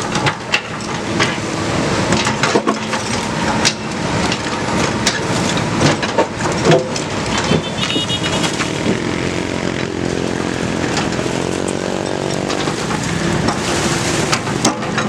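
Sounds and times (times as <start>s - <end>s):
excavator diesel engine under load: 0.0s - 15.0s.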